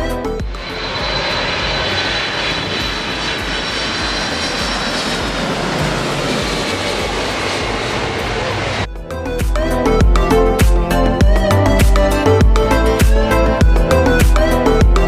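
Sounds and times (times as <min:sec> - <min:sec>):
jet engines roaring: 0:00.0 - 0:14.7
high engine whine: 0:00.0 - 0:15.0.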